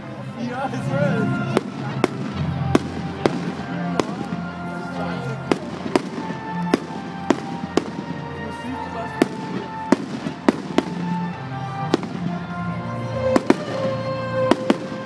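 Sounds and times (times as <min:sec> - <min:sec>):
music playing: 0:00.0 - 0:15.0
fireworks bursting with bangs: 0:01.2 - 0:15.0.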